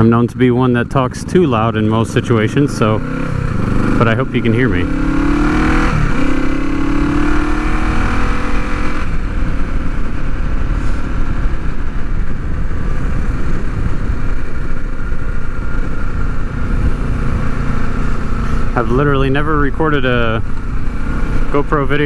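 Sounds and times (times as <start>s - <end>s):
motorcycle engine pulling away: 1.7s - 22.0s.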